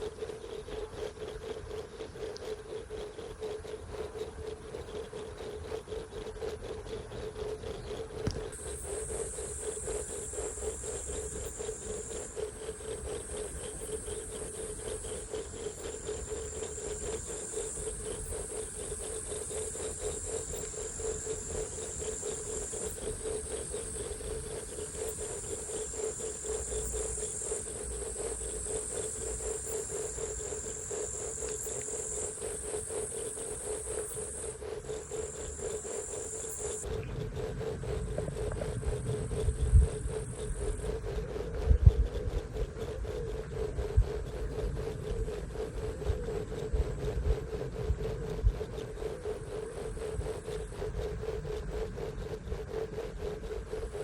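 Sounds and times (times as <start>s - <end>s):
steady low hum: 0.0s - 54.0s
insects trilling: 7.2s - 54.0s.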